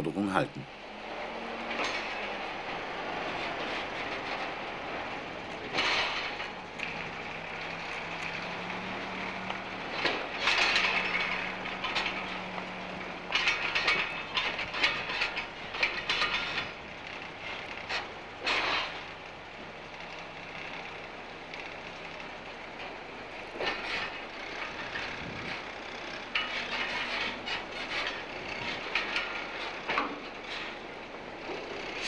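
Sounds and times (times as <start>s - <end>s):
steady mechanical noise: 0.0s - 32.0s
metal clanking and ratchet rattling: 1.6s - 32.0s.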